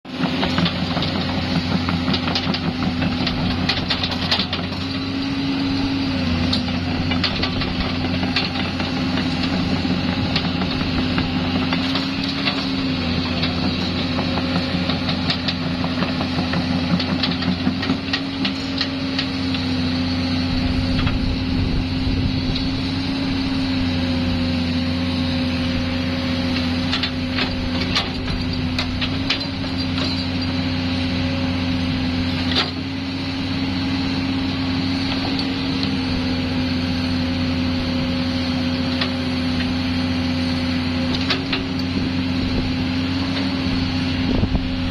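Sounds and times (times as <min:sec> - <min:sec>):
excavator diesel engine running: 0:00.1 - 0:44.9.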